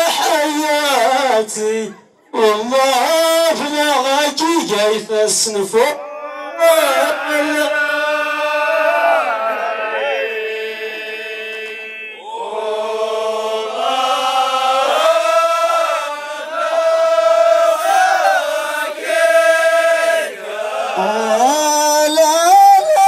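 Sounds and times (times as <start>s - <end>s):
man chanting sung poetry: 0.0s - 19.4s, 20.3s - 23.0s.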